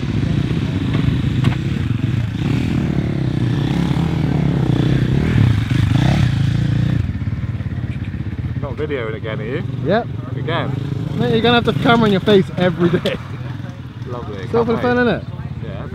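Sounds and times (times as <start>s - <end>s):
motocross bike engines revving: 0.0s - 15.9s.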